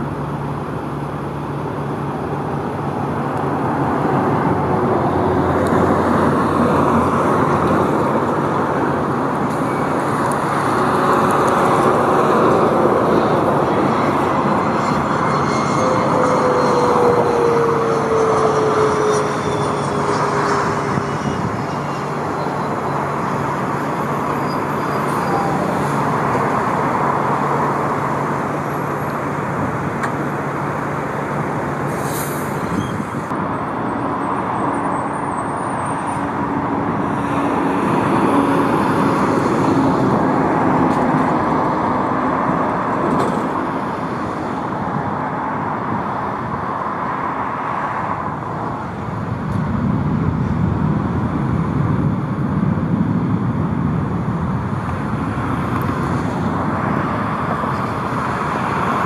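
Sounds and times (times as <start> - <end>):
jet airliner passing: 0.0 - 59.0.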